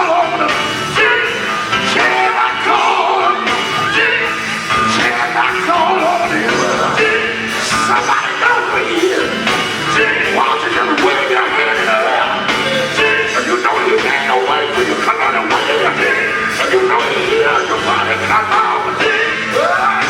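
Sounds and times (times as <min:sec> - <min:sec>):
band accompaniment: 0:00.0 - 0:20.0
gospel group singing: 0:00.0 - 0:20.0.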